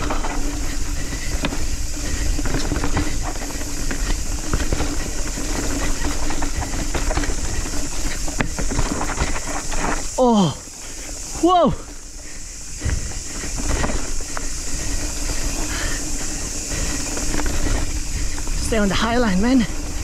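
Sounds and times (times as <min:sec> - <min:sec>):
bike knocking and rattling: 0:00.0 - 0:20.0
wind and tyre rumble: 0:00.0 - 0:20.0.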